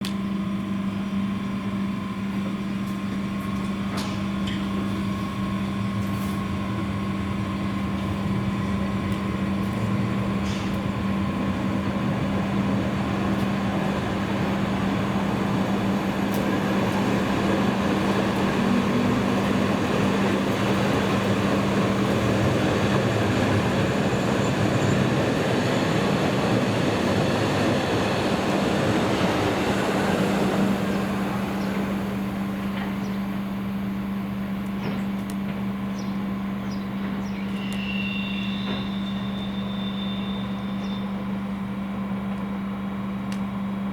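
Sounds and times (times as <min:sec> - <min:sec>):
train running: 0:00.0 - 0:43.9.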